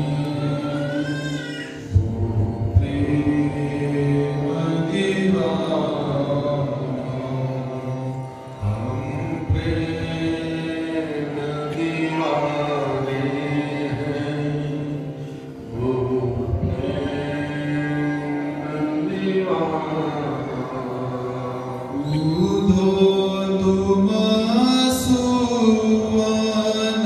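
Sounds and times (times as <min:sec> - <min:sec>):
men chanting devotional song: 0:00.0 - 0:27.0.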